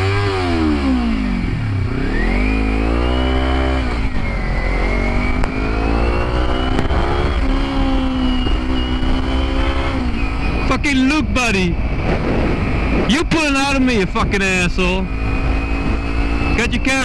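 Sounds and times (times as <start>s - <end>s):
motorcycle engine revving: 0.0s - 17.0s
road rumble: 0.0s - 17.0s
wind: 0.0s - 17.0s.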